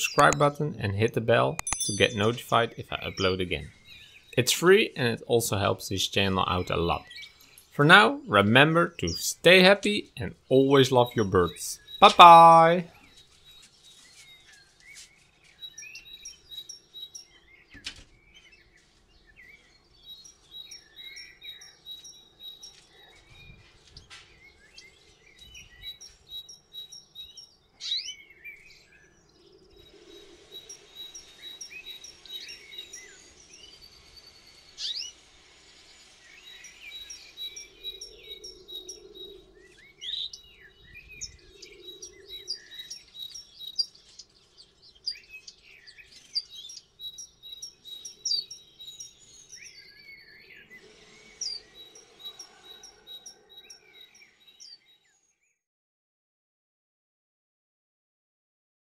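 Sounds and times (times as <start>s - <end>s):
birds chirping and trilling: 0.0s - 55.6s.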